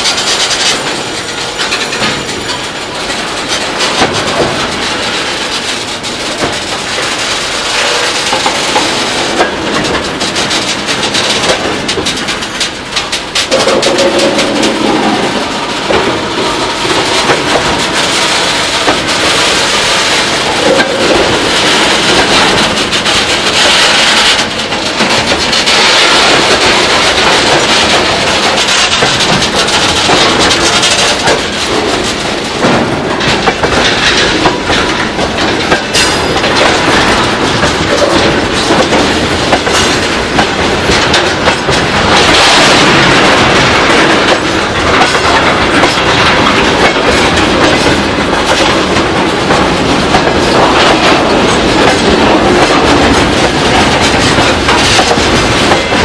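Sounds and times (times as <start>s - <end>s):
clickety-clack over rail joints: 0.0s - 56.0s
train wheels rushing on rail: 0.0s - 56.0s.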